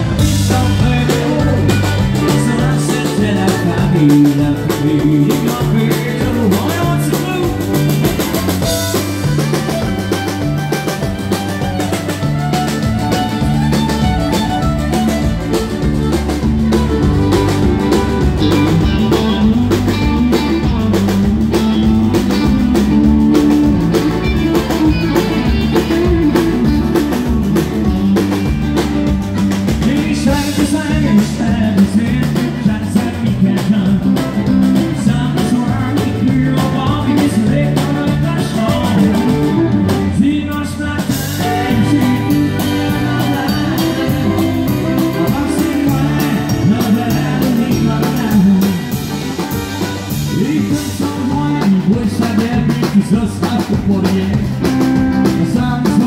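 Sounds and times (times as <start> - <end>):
drum kit: 0.0 - 56.0
electric bass: 0.0 - 56.0
electric guitar: 0.0 - 56.0
pedal steel guitar: 0.0 - 56.0.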